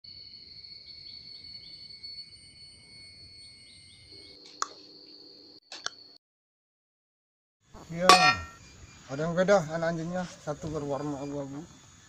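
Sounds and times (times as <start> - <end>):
insect chirp: 0.0 - 6.2, 7.7 - 12.0.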